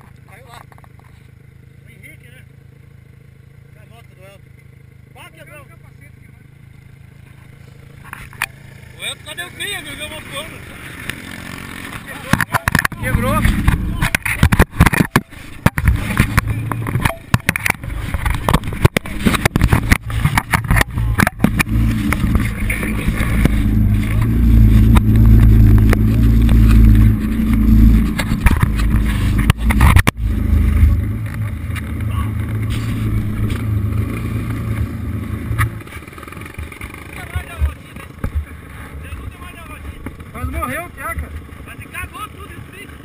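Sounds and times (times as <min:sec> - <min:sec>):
dirt bike engine running hard: 0:00.0 - 0:43.0.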